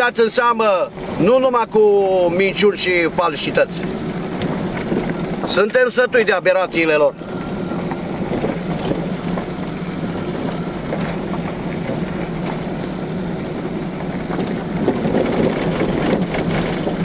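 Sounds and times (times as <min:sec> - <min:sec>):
car engine hum: 0:00.0 - 0:17.0
tyres crunching on gravel: 0:02.8 - 0:17.0.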